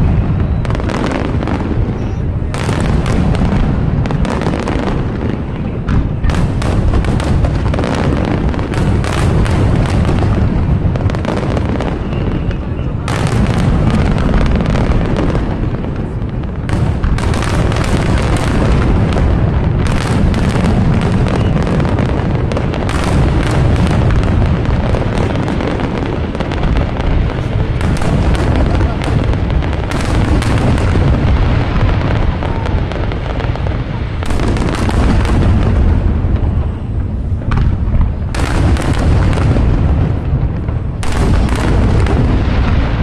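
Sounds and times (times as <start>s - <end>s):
fireworks crackle: 0.0s - 43.0s.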